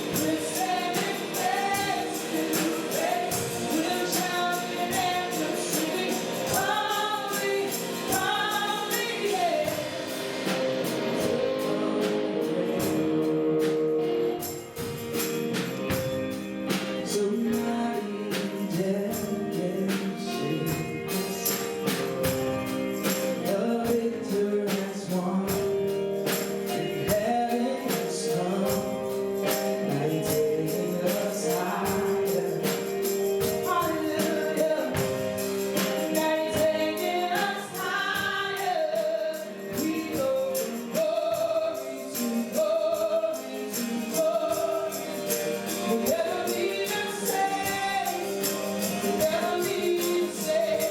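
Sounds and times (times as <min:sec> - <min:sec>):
voices singing: 0:00.0 - 0:15.5, 0:16.2 - 0:50.9
tambourine shaking: 0:00.0 - 0:50.9.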